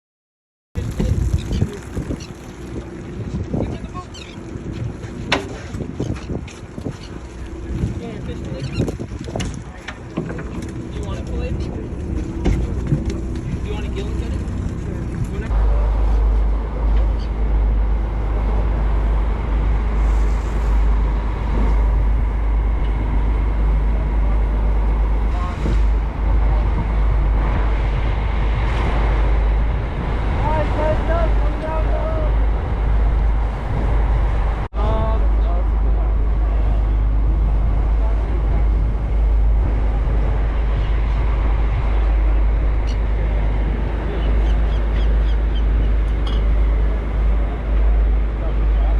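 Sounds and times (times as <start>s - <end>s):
boat engine rumble: 0.8s - 48.9s
sea water running: 0.8s - 48.9s
wind: 0.8s - 48.9s.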